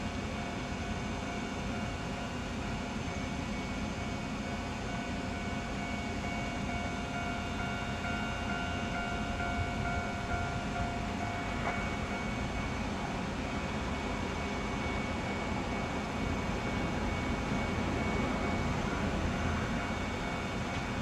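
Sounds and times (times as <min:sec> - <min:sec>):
faint steady whine: 0:00.0 - 0:21.0
railcar engine and wheels rumble: 0:00.0 - 0:21.0.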